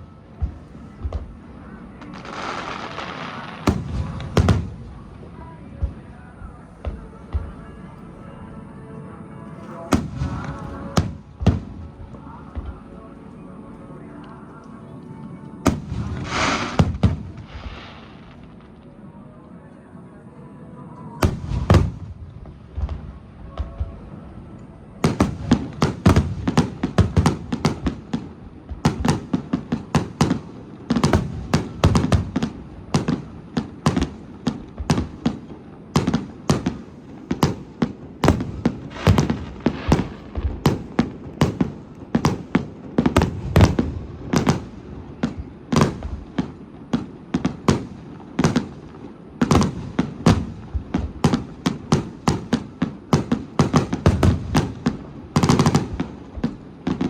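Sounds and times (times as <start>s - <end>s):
fireworks bursting bangs: 0.0s - 8.2s, 9.6s - 12.9s, 15.6s - 18.8s, 21.2s - 24.2s, 24.9s - 57.0s.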